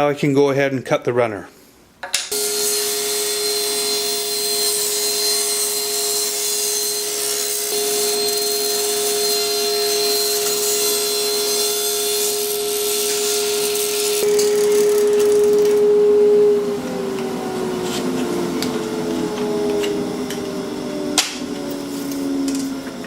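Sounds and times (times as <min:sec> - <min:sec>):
table saw cutting wood: 0:02.3 - 0:23.0.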